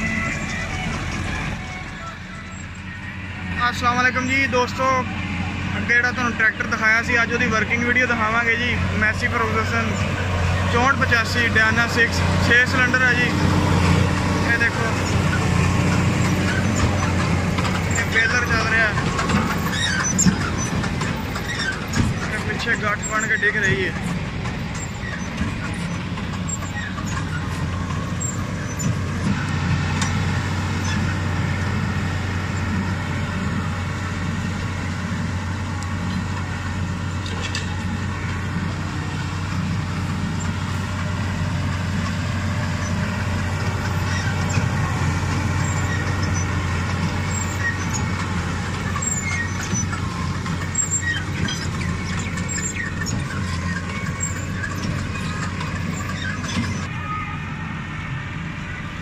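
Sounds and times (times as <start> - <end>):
baler working: 0.0 - 57.2
tractor diesel engine under load: 0.0 - 59.0.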